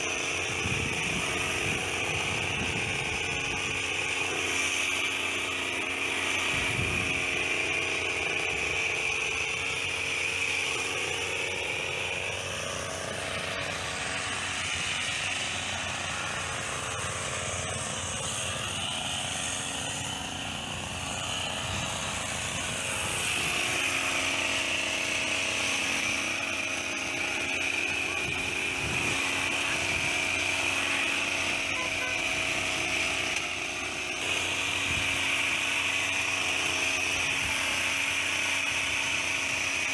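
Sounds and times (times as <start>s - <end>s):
hedge trimmer engine running: 0.0s - 39.9s.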